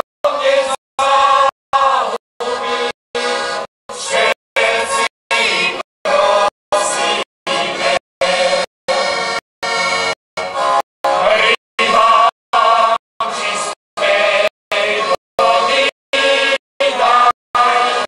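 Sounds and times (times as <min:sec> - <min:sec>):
accordion: 0:00.0 - 0:18.0
folk choir singing: 0:00.2 - 0:18.0.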